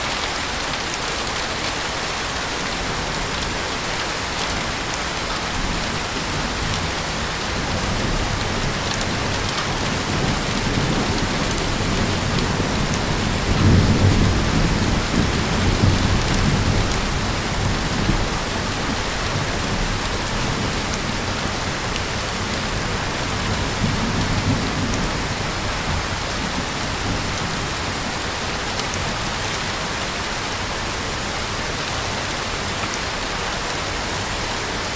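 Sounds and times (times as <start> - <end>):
heavy rain: 0.0 - 34.9
thunder rumbling: 1.6 - 30.9.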